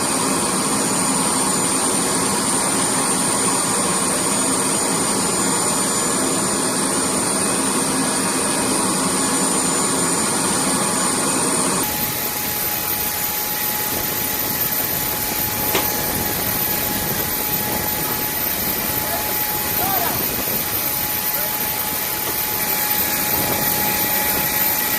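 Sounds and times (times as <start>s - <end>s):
jet engines whining: 0.0s - 24.9s.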